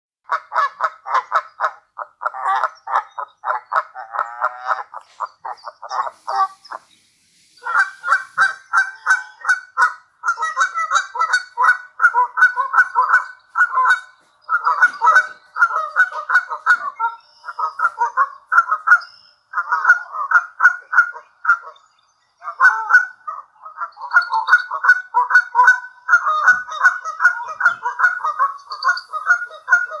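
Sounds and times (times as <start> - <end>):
geese honking: 0.3 - 7.0, 7.6 - 21.8, 22.5 - 30.0.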